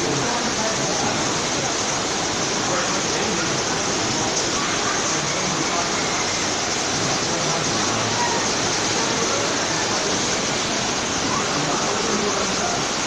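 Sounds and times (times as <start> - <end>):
rushing river rapids: 0.0 - 13.0.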